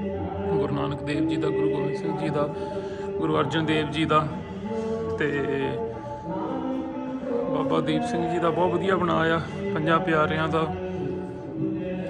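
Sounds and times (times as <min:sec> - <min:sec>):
devotional hymn singing: 0:00.0 - 0:12.0.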